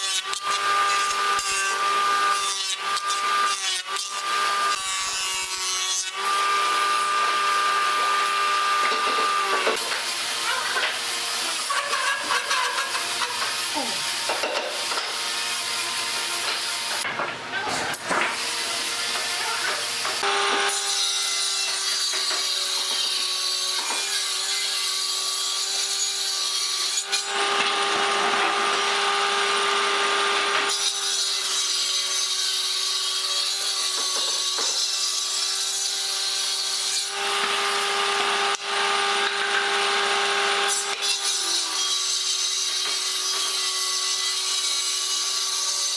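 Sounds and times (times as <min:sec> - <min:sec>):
table saw ripping wood: 0:00.0 - 0:45.9.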